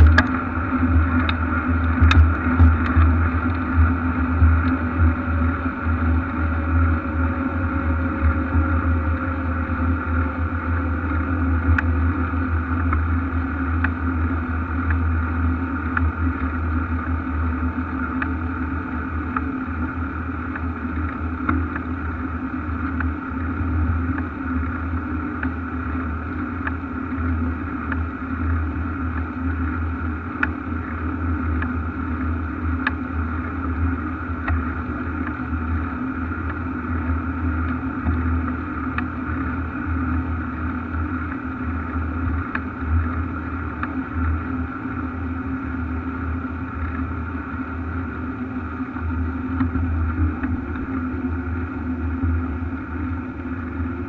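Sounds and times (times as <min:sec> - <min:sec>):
wind: 0:00.0 - 0:54.0.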